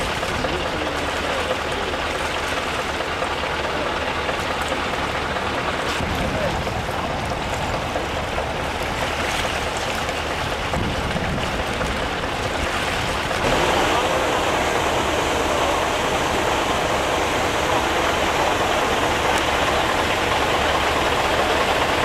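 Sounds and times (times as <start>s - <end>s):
engine humming: 0.0s - 22.0s
water rushing and splashing: 0.0s - 22.0s.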